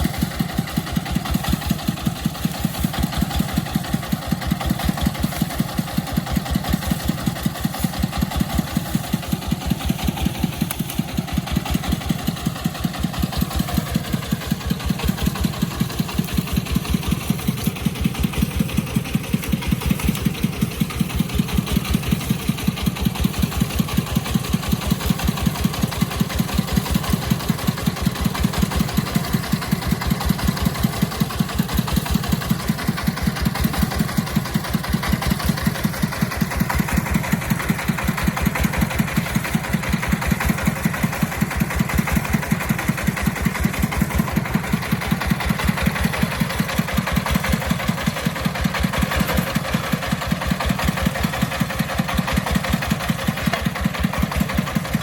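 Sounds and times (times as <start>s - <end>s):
vehicle engine thumping: 0.0s - 55.0s.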